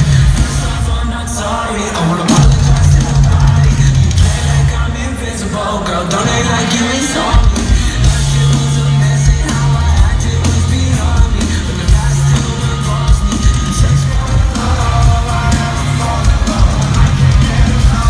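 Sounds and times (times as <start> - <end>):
live rock band playing: 0.0 - 1.0, 2.2 - 5.0, 6.1 - 18.0
heavy bass line: 0.0 - 5.6, 6.2 - 18.0.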